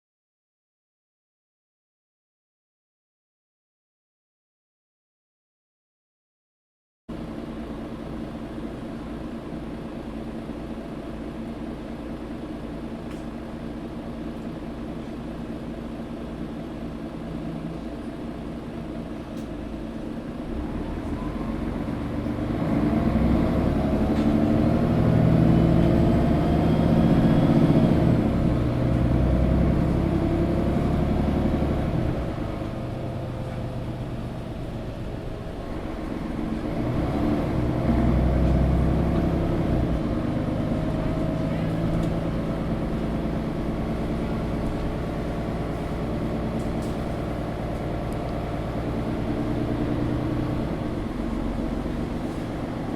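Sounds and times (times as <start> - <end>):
bus engine idling and accelerating: 7.1 - 52.9.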